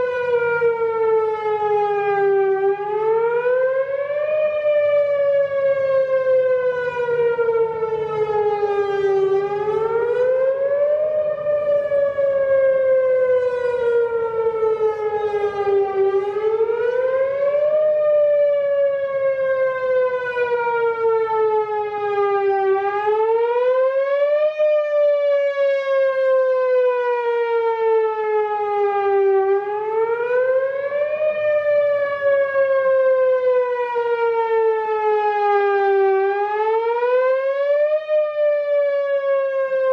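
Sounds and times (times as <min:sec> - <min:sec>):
outdoor warning siren whooping: 0:00.0 - 0:39.9.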